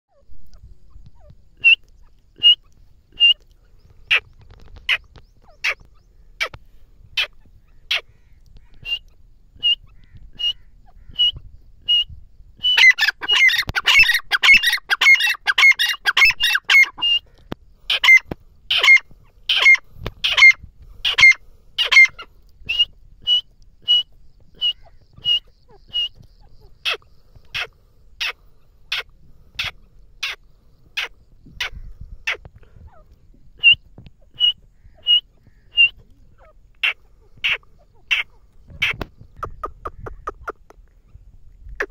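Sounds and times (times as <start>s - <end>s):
francolin calling: 0.1s - 41.9s.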